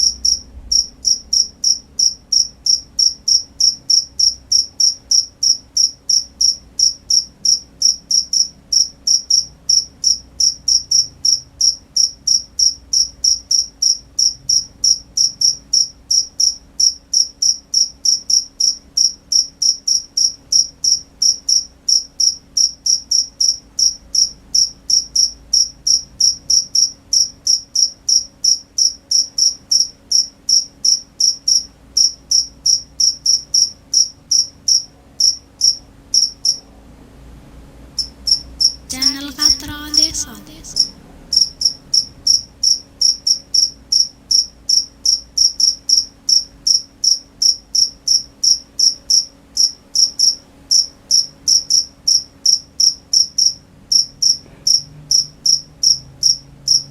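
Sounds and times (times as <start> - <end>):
cricket chirping: 0.0 - 36.6, 41.4 - 54.4, 55.1 - 56.9.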